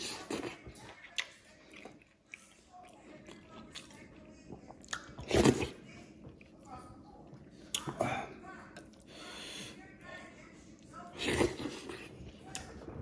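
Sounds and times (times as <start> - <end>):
chewing and wet mouth sounds: 0.0 - 13.0.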